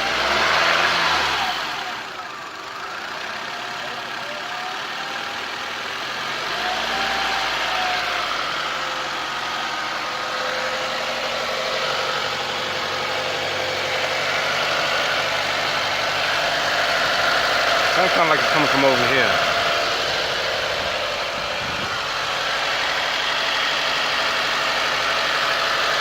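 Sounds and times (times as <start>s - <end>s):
car engine whining while revving: 0.0s - 26.0s.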